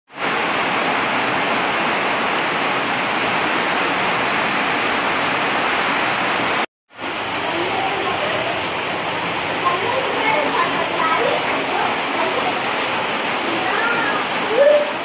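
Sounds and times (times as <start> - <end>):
heavy rain falling: 0.1 - 15.0.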